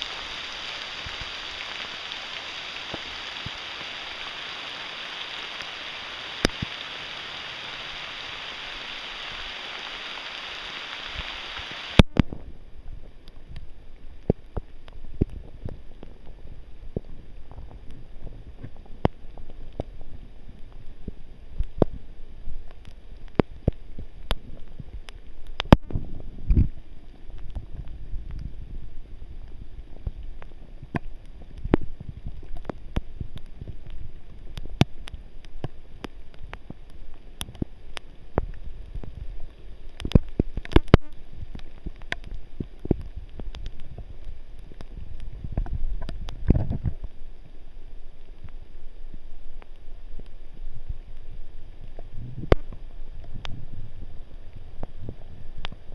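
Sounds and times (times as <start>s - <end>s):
rain pattering and dripping: 0.0s - 55.9s
wind rumble on microphone: 10.8s - 55.9s.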